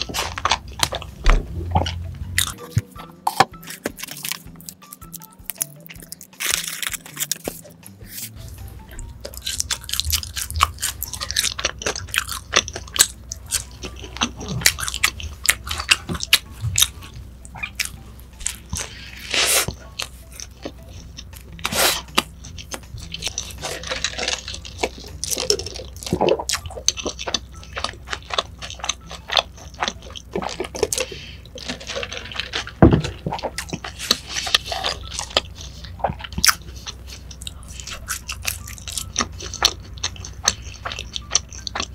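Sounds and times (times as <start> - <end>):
person chewing a burger: 0.0 - 41.9.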